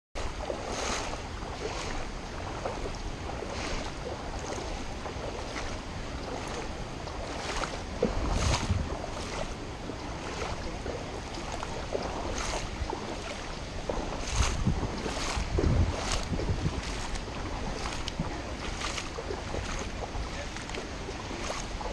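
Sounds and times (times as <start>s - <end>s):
rushing water: 0.2s - 21.9s
wading sloshes in water: 0.2s - 21.9s.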